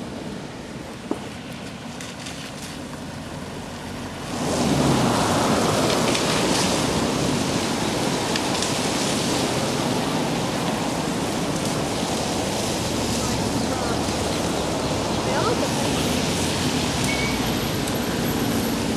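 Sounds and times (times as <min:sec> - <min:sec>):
heavy rain hiss: 0:00.0 - 0:18.9.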